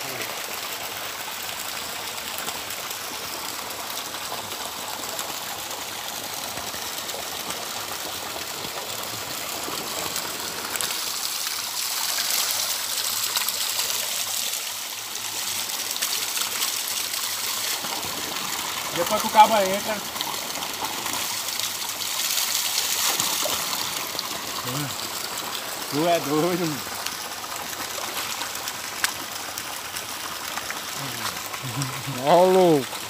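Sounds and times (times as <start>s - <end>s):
water pouring onto rocks: 0.0s - 33.0s.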